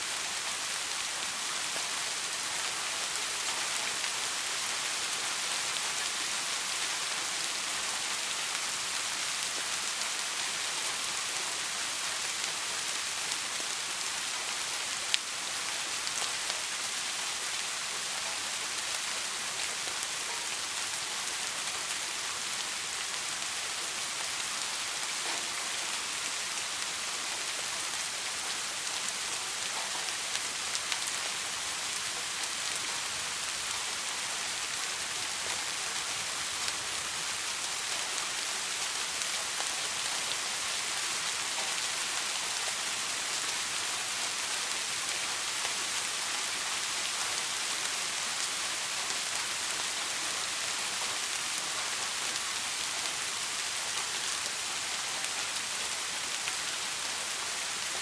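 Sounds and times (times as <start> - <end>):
soft rain: 0.0 - 58.0.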